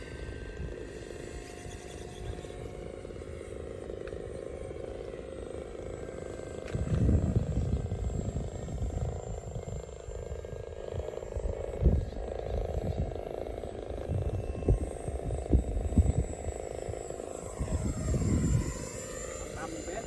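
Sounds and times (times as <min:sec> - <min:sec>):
electric ducted fans running: 0:00.0 - 0:20.0
faint high whine: 0:00.0 - 0:20.0.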